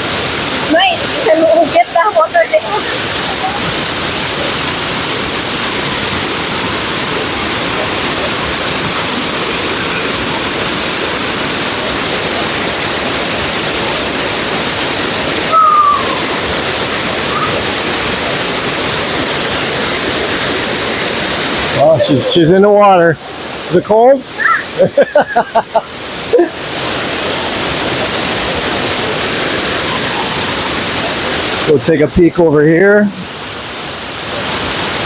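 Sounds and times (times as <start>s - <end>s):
waterfall pouring into a pool: 0.0s - 35.0s.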